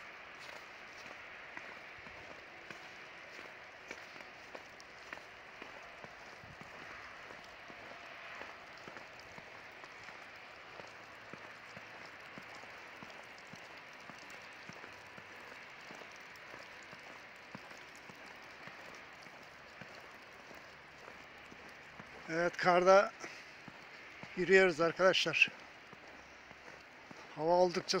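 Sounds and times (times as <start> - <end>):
footsteps crunching through snow: 0.0 - 28.0.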